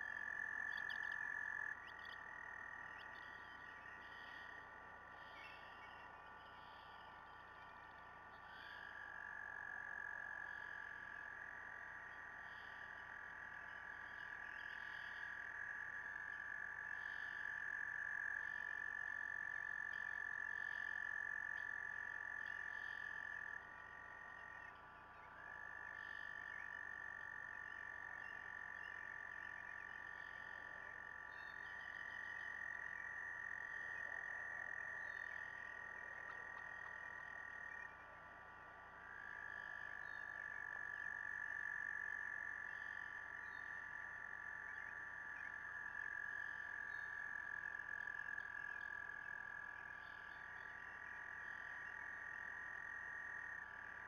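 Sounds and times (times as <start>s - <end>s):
frogs trilling: 0.0s - 54.0s.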